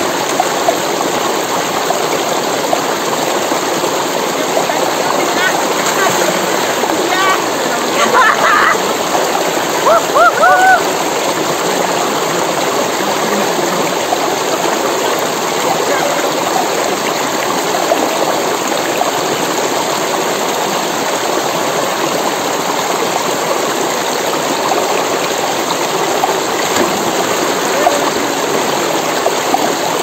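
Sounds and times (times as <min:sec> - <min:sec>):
stream flowing over stones: 0:00.0 - 0:30.0.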